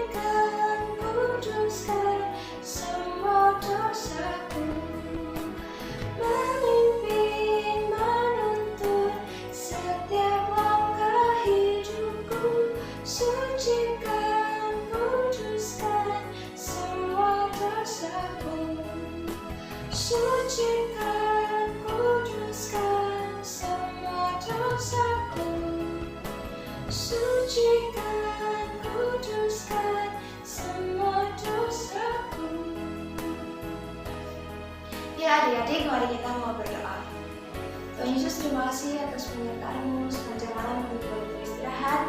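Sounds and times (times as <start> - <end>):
woman singing: 0.0 - 26.3, 26.9 - 33.8, 38.0 - 42.0.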